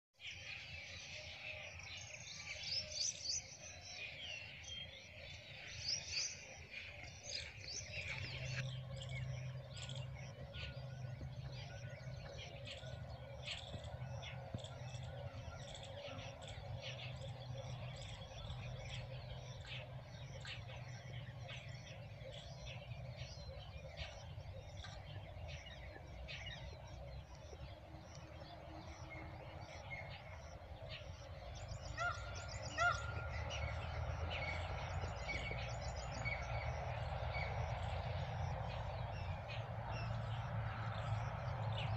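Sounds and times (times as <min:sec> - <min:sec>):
small birds chirping: 0:00.2 - 0:41.9
low background rumble: 0:03.6 - 0:41.9.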